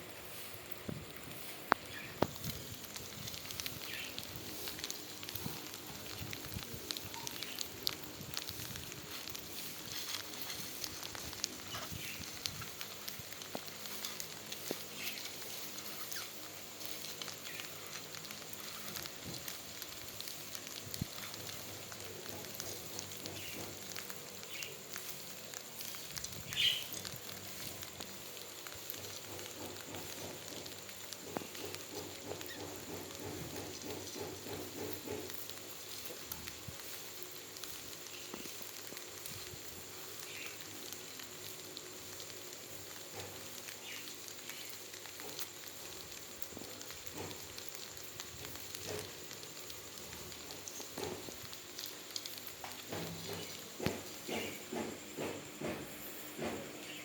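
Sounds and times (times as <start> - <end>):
rats gnawing food: 0.8 - 57.0.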